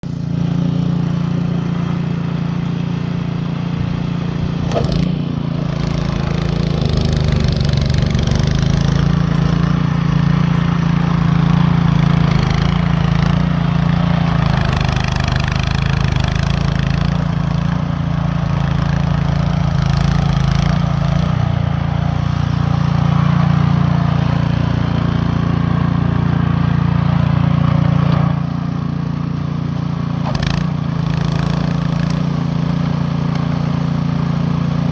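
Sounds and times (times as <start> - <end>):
snow blower engine running: 0.0 - 34.9.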